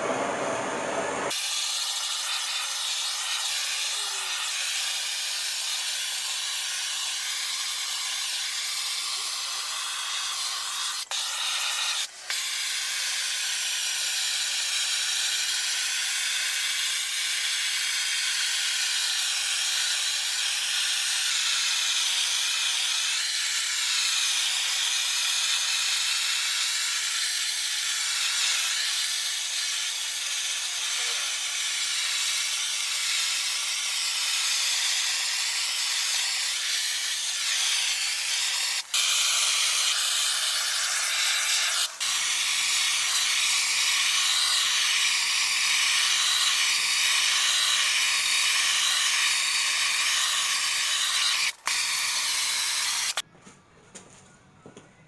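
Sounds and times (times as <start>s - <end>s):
blowtorch flame hissing: 0.0s - 53.2s.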